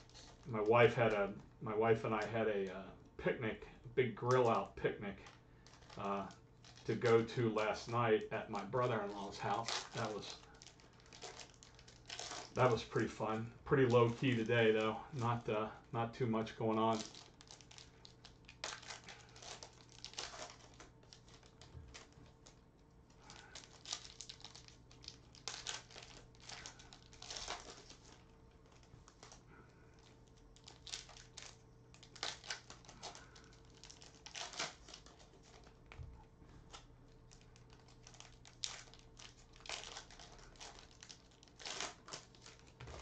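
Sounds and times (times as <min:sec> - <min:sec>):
foil wrappers crinkling: 0:00.0 - 0:02.5, 0:04.2 - 0:36.0, 0:36.6 - 0:43.0
faint steady hum: 0:00.0 - 0:43.0.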